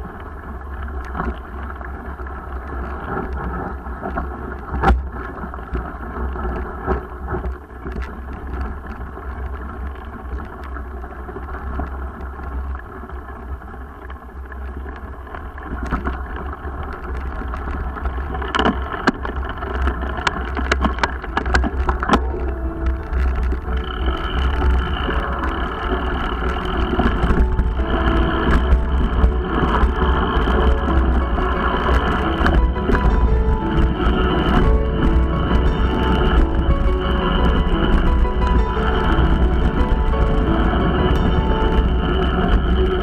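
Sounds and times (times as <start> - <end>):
bike clicking and rattling: 0.0 - 43.0
wind and tyres on gravel: 0.0 - 43.0.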